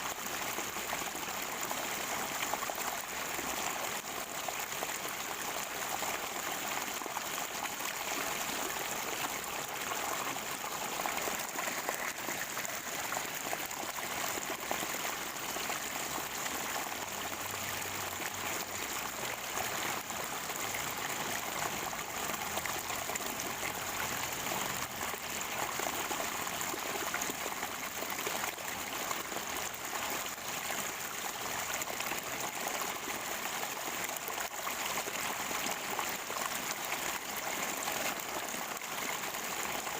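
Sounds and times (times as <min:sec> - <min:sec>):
spring water gurgling: 0:00.0 - 0:39.9.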